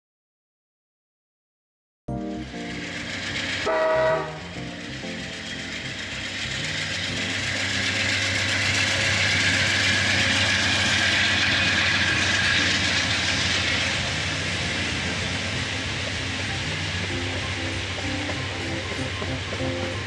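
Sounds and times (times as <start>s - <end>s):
train engine drone: 2.1s - 20.0s
train wheels on rails: 2.2s - 20.0s.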